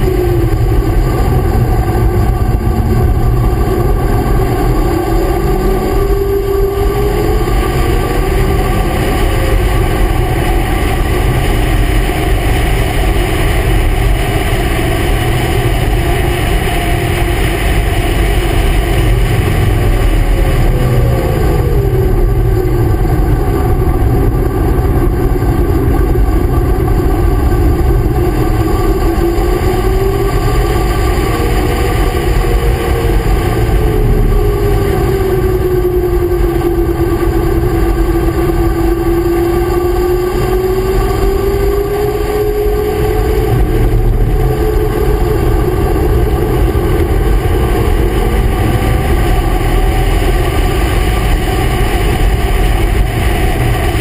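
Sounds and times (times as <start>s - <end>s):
racing engine at speed: 0.0s - 54.0s
wind rush: 0.0s - 54.0s.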